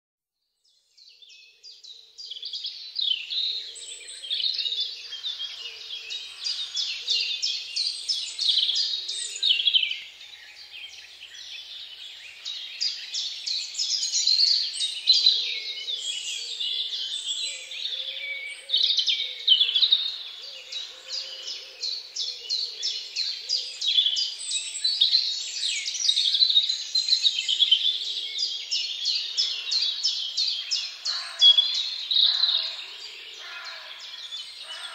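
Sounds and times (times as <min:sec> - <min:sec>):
birds chirping and singing: 0:00.7 - 0:34.9.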